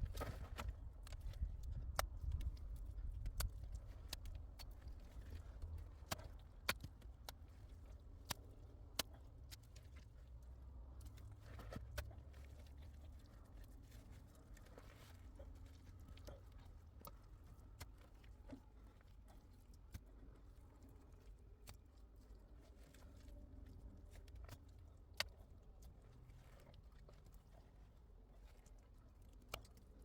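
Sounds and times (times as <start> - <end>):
faint clicks and taps: 0.0 - 30.0.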